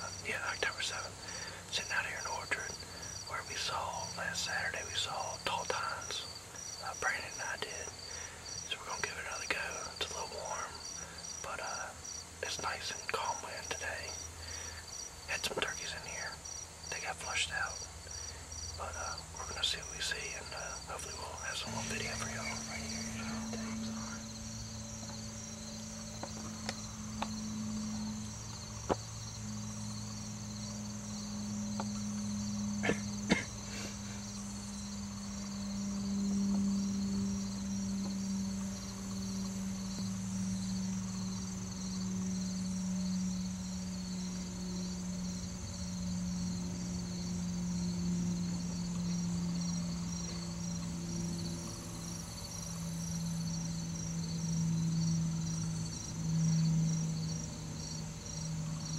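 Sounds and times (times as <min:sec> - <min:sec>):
insects trilling: 0:00.0 - 0:58.9
low hum: 0:00.0 - 0:58.9.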